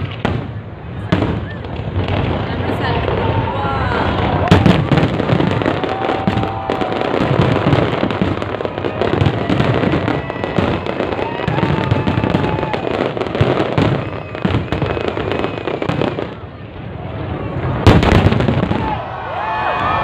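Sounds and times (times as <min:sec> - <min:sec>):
fireworks whistling: 0:00.0 - 0:19.0
fireworks bangs and crackling: 0:00.0 - 0:20.0.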